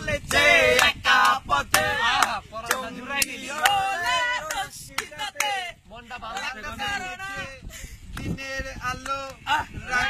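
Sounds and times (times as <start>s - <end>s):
young men shouting a chant: 0.0s - 7.6s, 8.3s - 10.0s.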